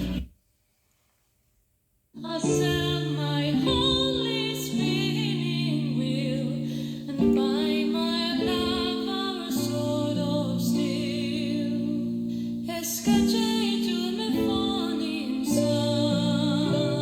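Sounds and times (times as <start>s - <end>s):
person singing: 2.2s - 17.0s.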